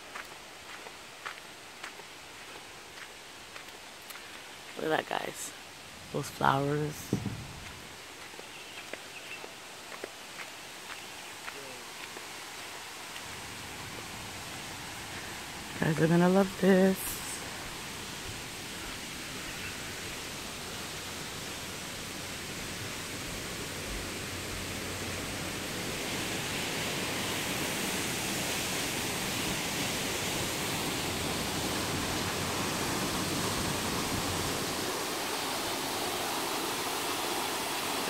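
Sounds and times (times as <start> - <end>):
waterfall rushing: 3.4 - 38.0.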